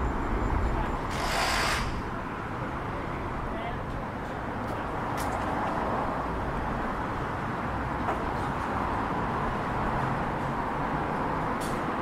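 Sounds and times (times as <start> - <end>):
city road traffic hum: 0.0 - 12.0.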